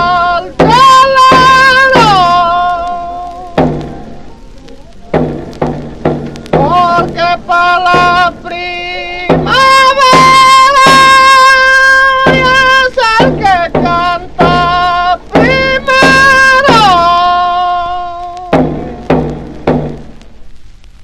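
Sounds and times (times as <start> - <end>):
hand drum beats: 0.0 - 4.4, 5.1 - 20.4.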